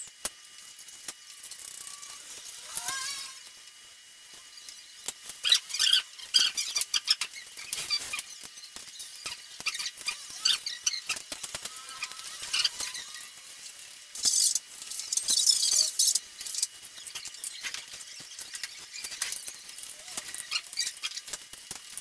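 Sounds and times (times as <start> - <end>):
high-pitched noise bursts: 1.4 - 21.3.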